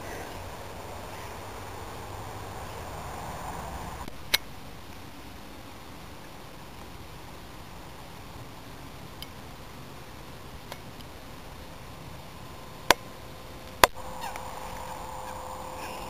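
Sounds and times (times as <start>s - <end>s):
faint steady hiss: 0.0s - 16.0s
faint steady hum: 0.0s - 16.0s.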